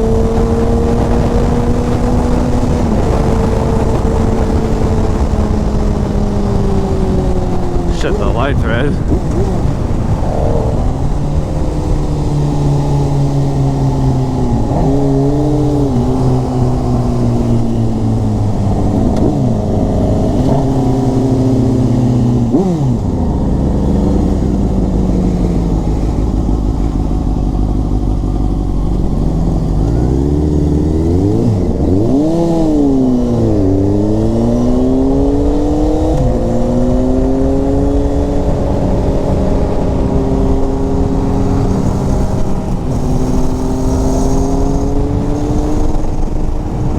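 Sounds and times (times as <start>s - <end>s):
motorcycle engines revving: 9.0s - 46.9s.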